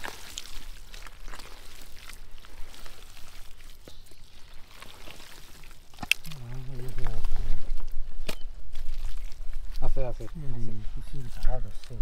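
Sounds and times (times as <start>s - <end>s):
mud squelches and slaps: 0.0s - 10.4s
hands digging in wet mud: 0.0s - 12.0s.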